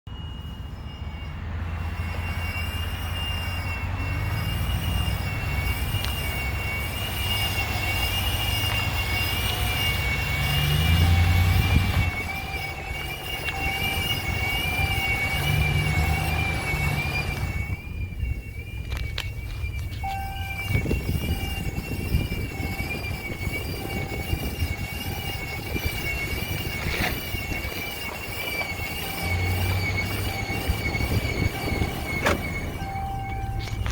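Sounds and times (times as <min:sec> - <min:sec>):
high-pitched two-tone whine: 0:00.1 - 0:33.9
low engine rumble: 0:00.2 - 0:33.9.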